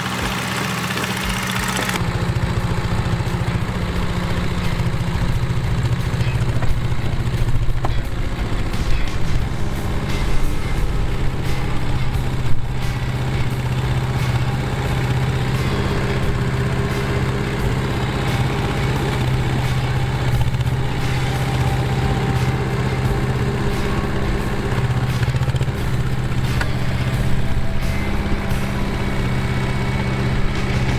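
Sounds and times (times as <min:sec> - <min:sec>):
mini excavator engine running: 0:00.0 - 0:30.9.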